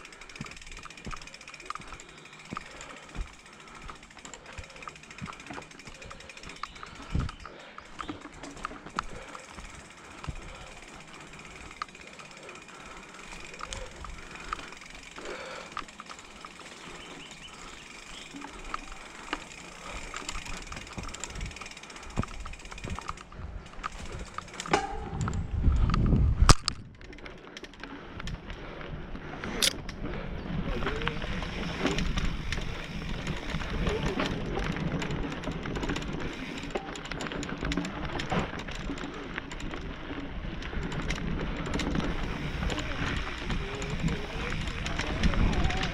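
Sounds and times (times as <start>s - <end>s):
bike clicks and rattles: 0.0s - 45.9s
bike tyres on dirt: 0.0s - 45.9s.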